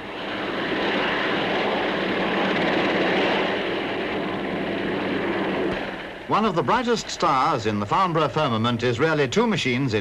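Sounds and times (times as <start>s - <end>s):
helicopter turbine engine rushing: 0.0s - 10.0s.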